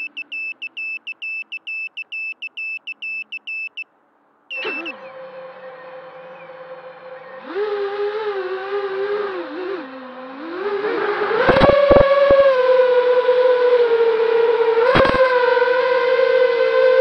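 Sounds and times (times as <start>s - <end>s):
drone motors whining: 0.0s - 3.4s, 4.5s - 17.0s.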